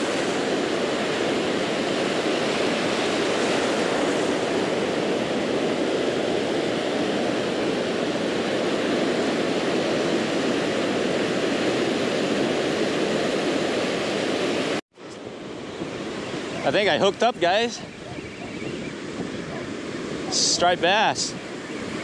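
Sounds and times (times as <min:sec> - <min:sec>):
surf washing up a beach: 0:00.0 - 0:22.0.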